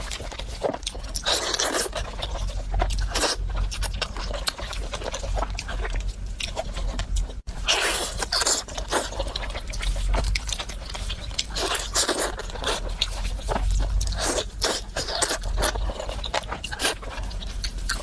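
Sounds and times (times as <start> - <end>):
person chewing crunchy food: 0.0 - 18.0.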